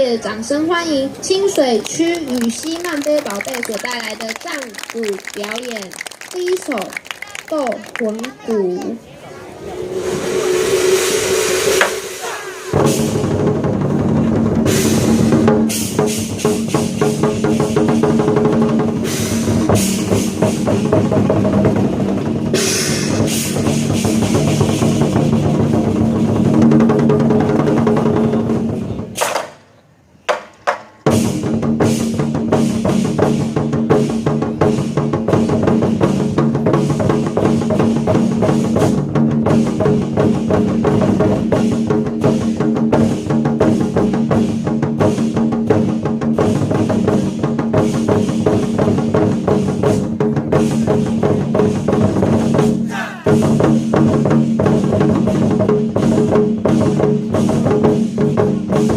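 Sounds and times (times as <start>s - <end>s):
drum ensemble playing fast: 1.3s - 29.4s, 30.7s - 58.9s.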